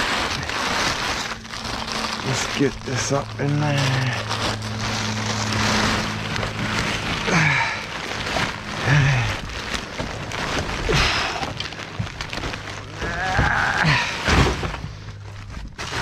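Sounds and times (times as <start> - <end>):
plastic wrap crinkling: 0.0 - 16.0
steady low hum: 0.0 - 16.0.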